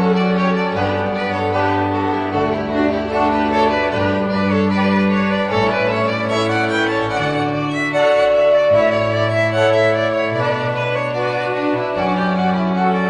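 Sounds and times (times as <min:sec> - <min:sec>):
bowed strings playing long notes: 0:00.0 - 0:13.0.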